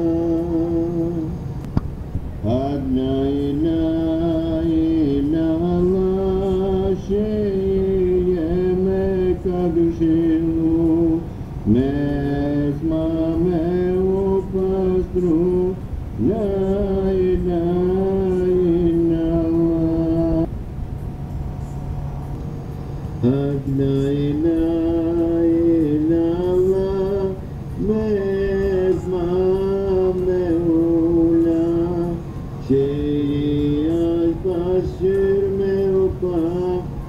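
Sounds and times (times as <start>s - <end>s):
person chanting a devotional hymn: 0.0s - 1.6s, 2.4s - 20.5s, 23.2s - 37.0s
steady low drone tone: 0.0s - 37.0s.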